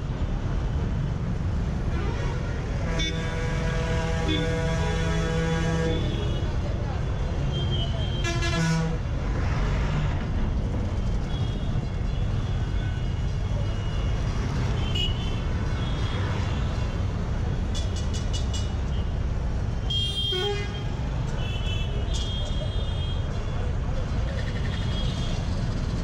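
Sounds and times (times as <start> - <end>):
heavy vehicle engines rumbling: 0.0 - 26.0
vehicles passing: 0.0 - 26.0.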